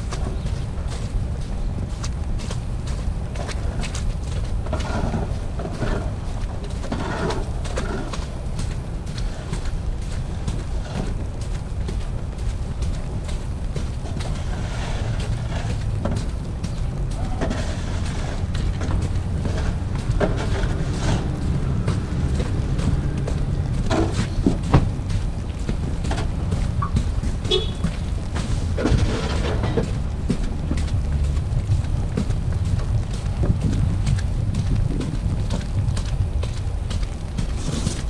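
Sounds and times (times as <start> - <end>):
city street noise: 0.0 - 38.0
footsteps on slushy snow: 0.0 - 38.0
wind rumble on microphone: 0.0 - 38.0.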